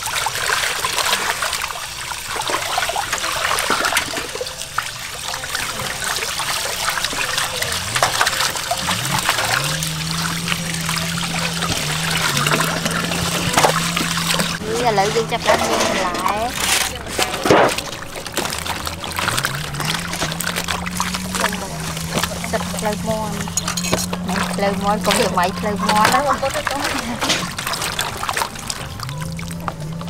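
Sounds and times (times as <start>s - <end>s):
low steady hum: 0.0s - 30.0s
tap water pouring into basin: 0.0s - 30.0s
water sloshing as hands rub meat: 0.0s - 30.0s.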